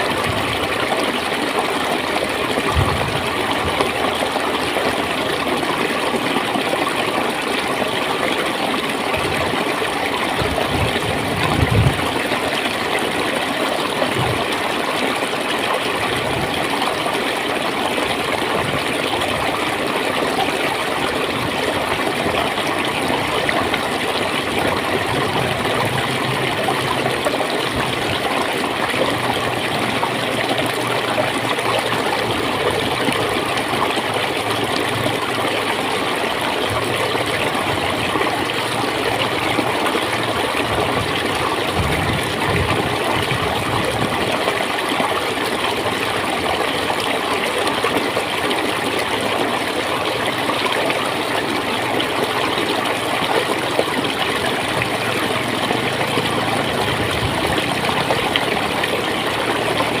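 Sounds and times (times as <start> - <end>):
water flowing and gurgling: 0.0 - 60.0.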